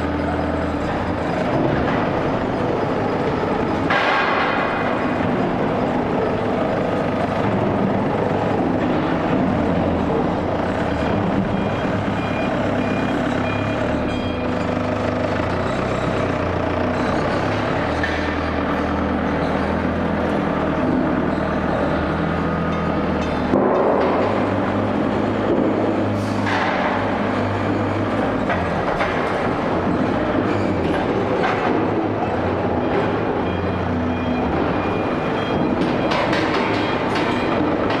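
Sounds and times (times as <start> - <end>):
heavy machinery noise: 0.0 - 38.0.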